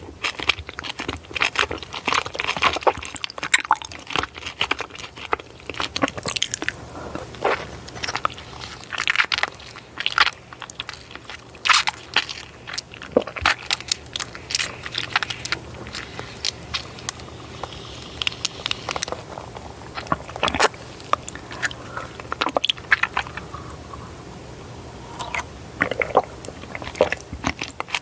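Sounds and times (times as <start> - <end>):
crunchy chewing: 0.0 - 24.2, 25.2 - 28.0.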